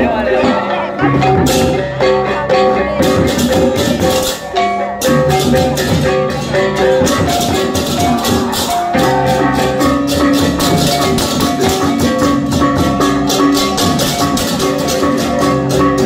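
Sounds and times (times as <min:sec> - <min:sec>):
drums: 0:00.0 - 0:16.0
hand cymbals clashing: 0:01.2 - 0:16.0.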